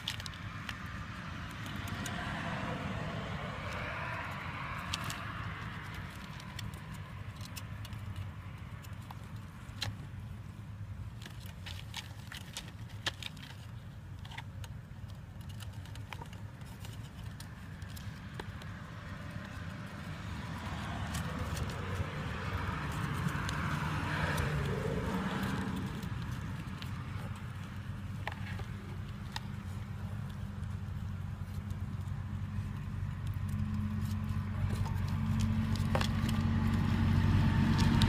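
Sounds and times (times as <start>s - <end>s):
rats scrabbling in paper bedding: 0.0s - 38.0s.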